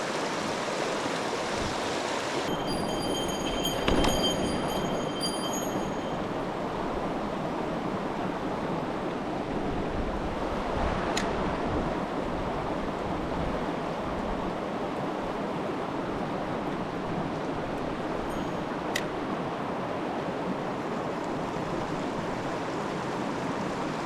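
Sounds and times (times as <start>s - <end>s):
stream rushing over rocks: 0.0s - 3.8s, 4.4s - 24.0s.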